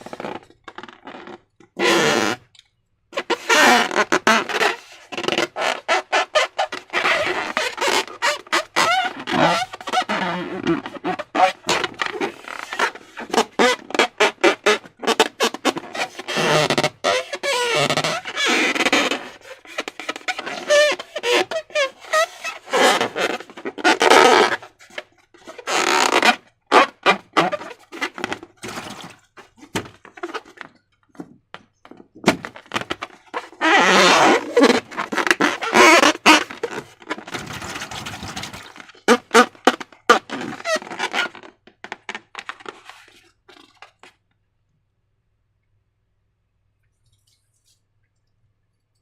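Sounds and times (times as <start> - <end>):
rubbery rubbing: 0.0 - 2.5, 3.1 - 44.2.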